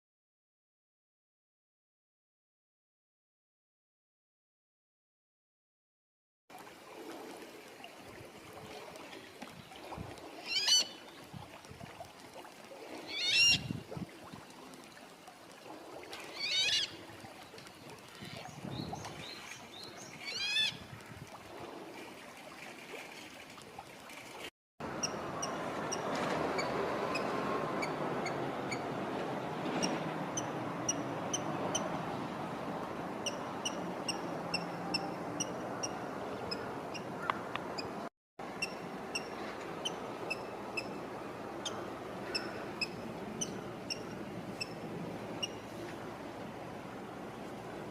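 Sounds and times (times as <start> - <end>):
running water: 6.5 - 47.9.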